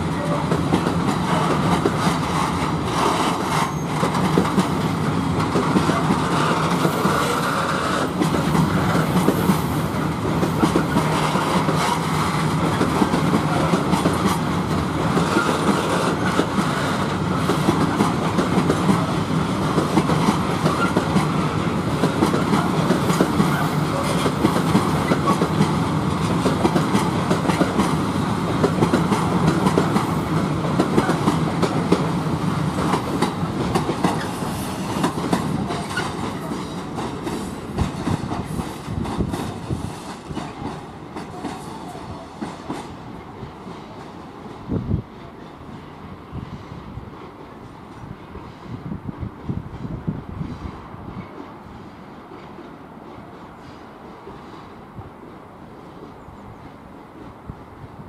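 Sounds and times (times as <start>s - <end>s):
train wheels clicking over rail joints: 0.0s - 48.8s
rumble of rolling freight cars: 0.0s - 58.0s.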